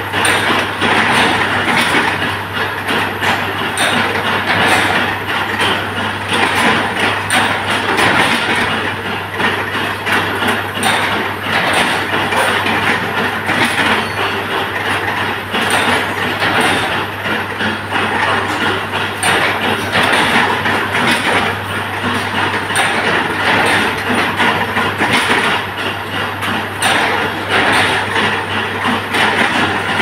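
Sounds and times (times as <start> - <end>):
machine hum: 0.0 - 30.0
machinery rattling and clattering: 0.0 - 30.0.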